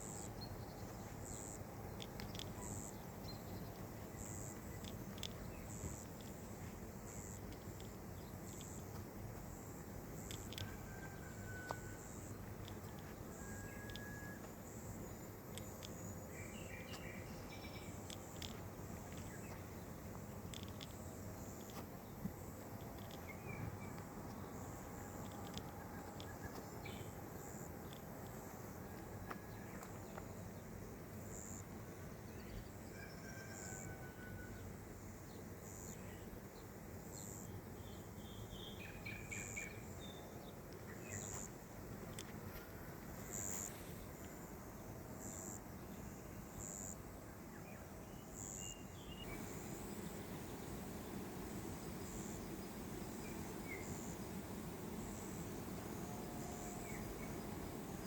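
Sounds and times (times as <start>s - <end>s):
insect chirping: 0.0s - 31.7s, 42.9s - 58.0s
steady hiss: 0.0s - 32.8s, 34.6s - 58.0s.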